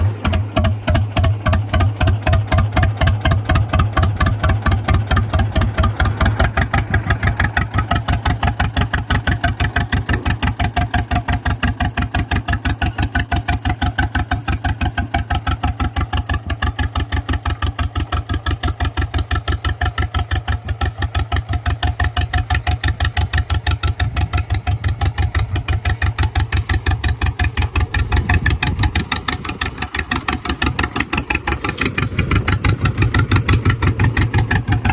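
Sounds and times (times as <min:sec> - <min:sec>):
dozer engine idling: 0:00.0 - 0:34.9.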